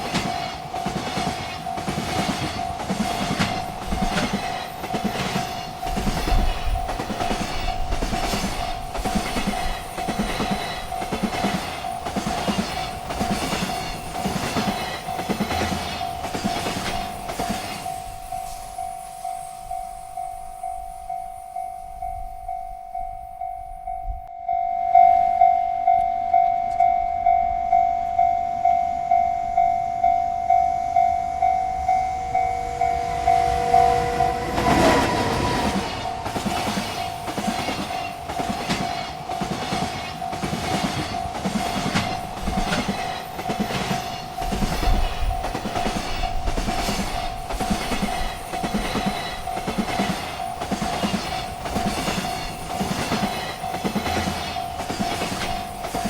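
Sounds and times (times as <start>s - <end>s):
train wheels clacking on rails: 0.0s - 24.0s, 30.0s - 56.0s
railroad crossing bell ringing: 0.0s - 56.0s.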